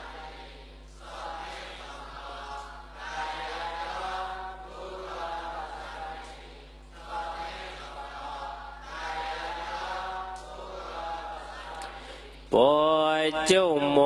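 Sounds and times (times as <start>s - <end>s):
chanting recitation: 0.0s - 14.0s.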